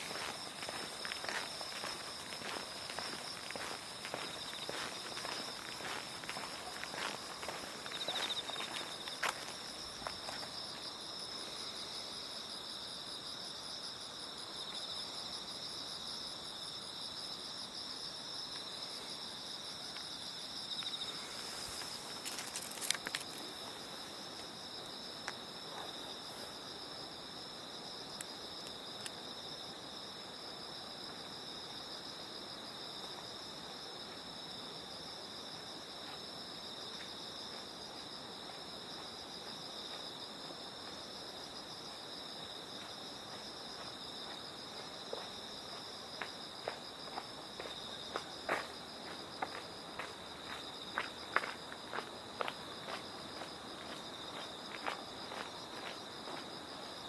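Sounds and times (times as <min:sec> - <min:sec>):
crickets trilling: 0:00.0 - 0:57.0
faint high insect trill: 0:00.0 - 0:57.0.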